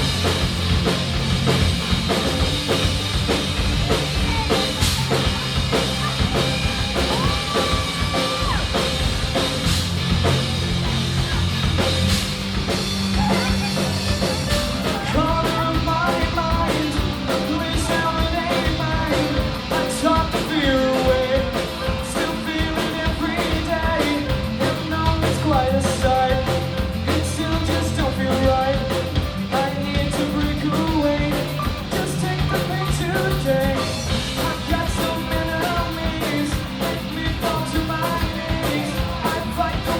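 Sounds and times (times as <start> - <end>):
rock band playing: 0.0 - 39.9
person singing lead vocal: 3.8 - 9.0, 13.0 - 39.9.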